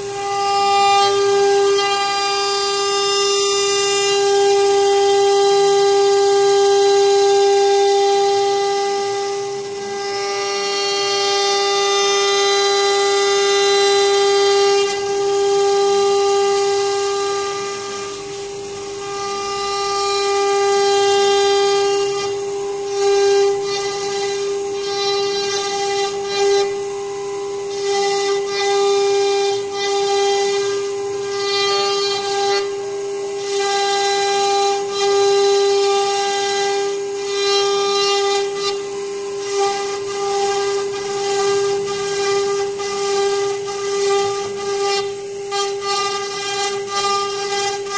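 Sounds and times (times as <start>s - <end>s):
router bit cutting wood: 0.0s - 47.9s
router spindle high whine: 0.0s - 47.9s.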